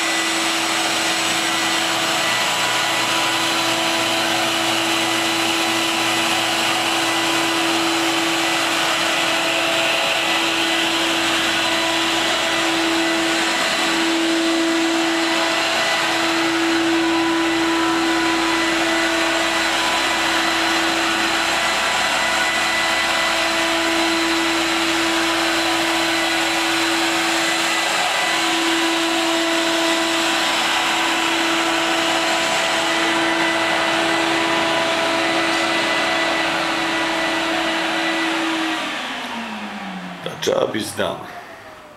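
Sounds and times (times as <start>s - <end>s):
carpet extractor vacuum drone: 0.0s - 41.9s.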